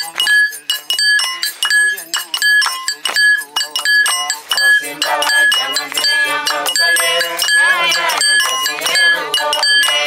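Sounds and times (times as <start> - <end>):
group singing: 0.0 - 10.0
hand clapping: 0.0 - 10.0.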